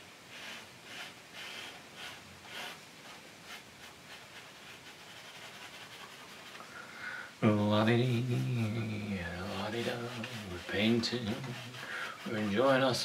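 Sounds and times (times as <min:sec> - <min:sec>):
paintbrush scrubbing on canvas: 0:00.3 - 0:06.6, 0:07.6 - 0:13.0.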